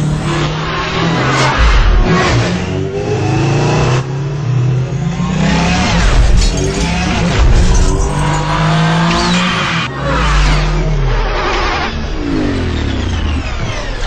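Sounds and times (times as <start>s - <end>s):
electronic engine whines: 0.0s - 14.0s.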